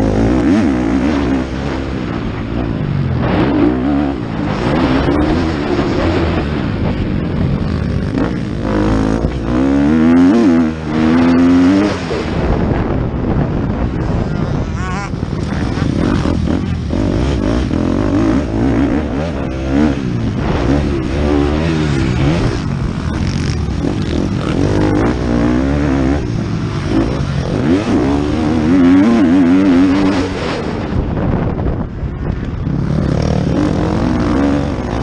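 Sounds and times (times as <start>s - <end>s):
motocross engine revving: 0.0s - 35.0s.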